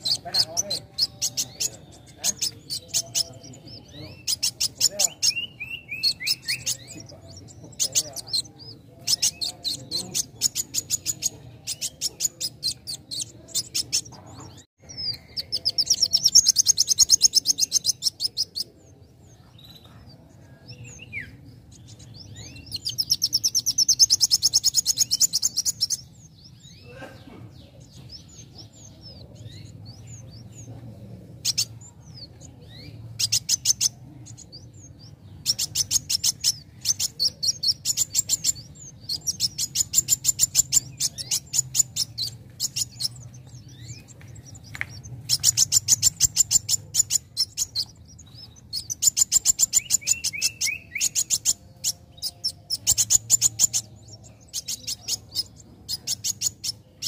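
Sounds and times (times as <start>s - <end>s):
sunbird singing sharp chip notes: 0.0s - 57.0s.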